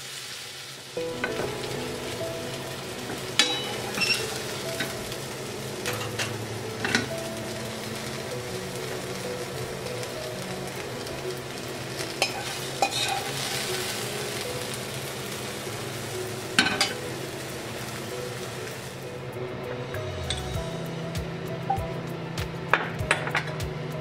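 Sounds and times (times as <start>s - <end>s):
onions sizzling in a pan: 0.0s - 24.0s.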